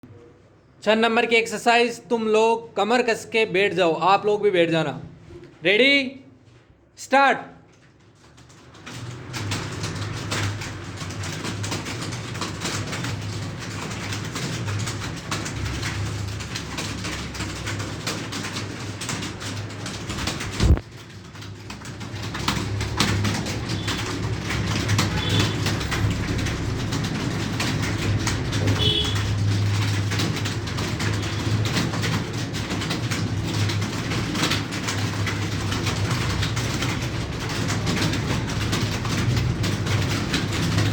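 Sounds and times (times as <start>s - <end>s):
keyboards typing: 7.1s - 40.9s.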